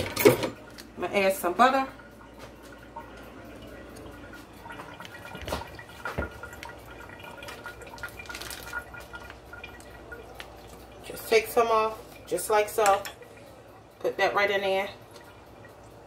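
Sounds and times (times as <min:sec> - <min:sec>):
water dripping: 0:00.5 - 0:16.0.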